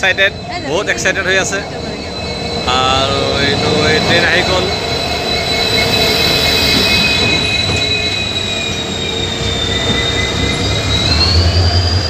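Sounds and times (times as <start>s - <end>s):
low train rumble: 0.0s - 12.0s
train wheels squealing: 0.0s - 12.0s.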